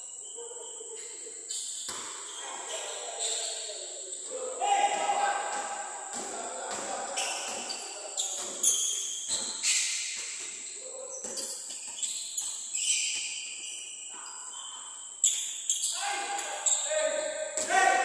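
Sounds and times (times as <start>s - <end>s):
sneakers squeaking on gym floor: 0.0s - 18.0s.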